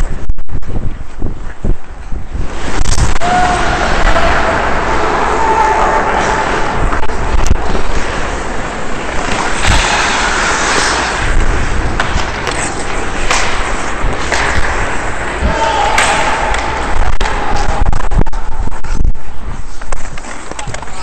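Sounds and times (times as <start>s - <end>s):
wind on microphone: 0.0s - 21.0s
skates scraping ice: 0.7s - 21.0s
hockey sticks and puck clacking: 1.4s - 21.0s.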